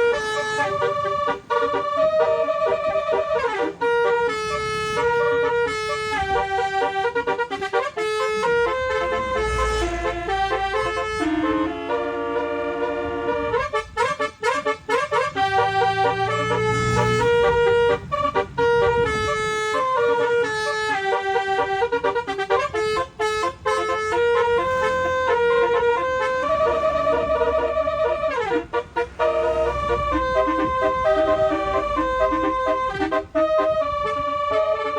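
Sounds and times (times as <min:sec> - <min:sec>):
musical air horn melody: 0:00.0 - 0:34.9.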